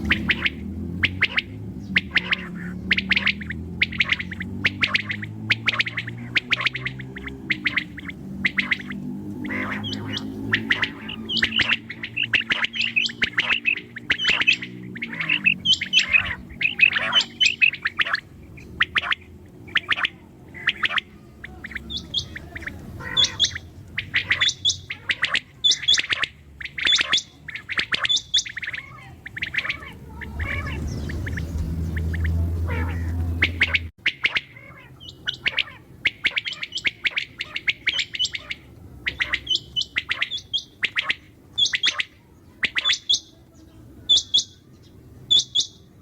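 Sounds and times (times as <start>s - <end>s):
quail calling: 0.0s - 46.0s.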